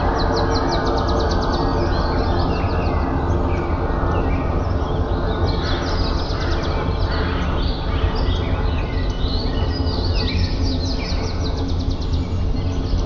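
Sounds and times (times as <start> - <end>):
songbirds chirping and trilling: 0.0 - 13.0
steady low rumble: 0.0 - 13.0.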